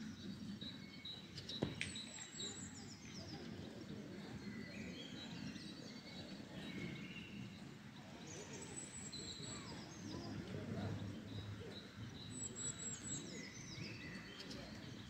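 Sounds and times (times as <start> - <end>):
outdoor background noise: 0.0 - 15.0
songbirds chirping: 0.0 - 15.0.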